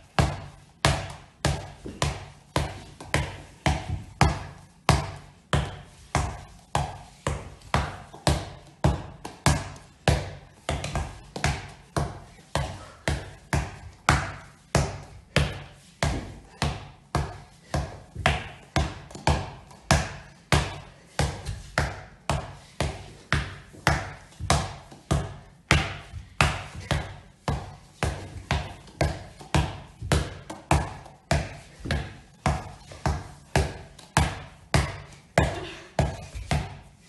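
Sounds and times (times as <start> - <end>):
ball bouncing on wooden floor: 0.0 - 37.0.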